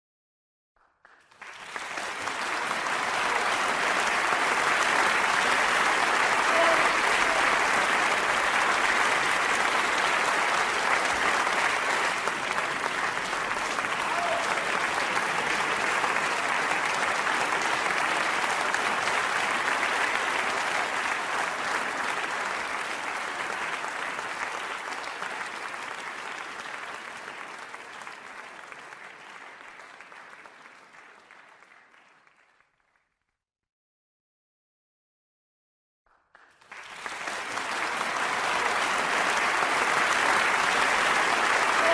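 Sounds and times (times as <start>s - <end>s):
crowd applauding: 0.8s - 33.2s, 36.1s - 41.9s.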